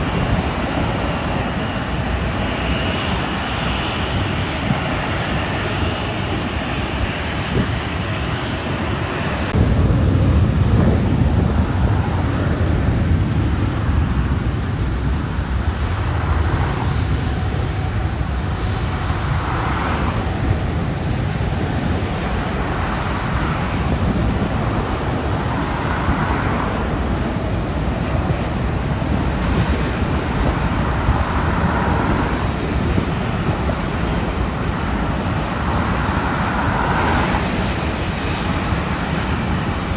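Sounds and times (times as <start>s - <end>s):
road traffic passing: 0.0s - 7.6s, 8.2s - 39.9s
jet engine rumble: 0.0s - 39.9s.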